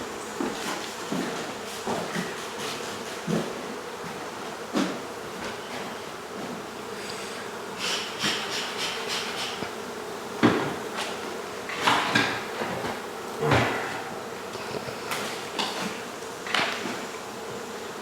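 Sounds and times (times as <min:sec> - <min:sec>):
honey bees buzzing: 0:00.0 - 0:18.0.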